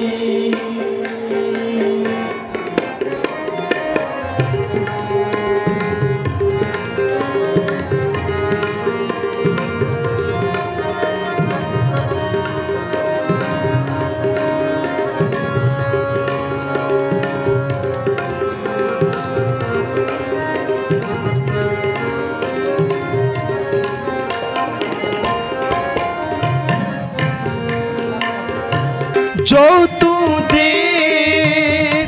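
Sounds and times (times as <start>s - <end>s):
harmonium chords: 0.0s - 32.0s
tabla rhythm: 0.0s - 32.0s.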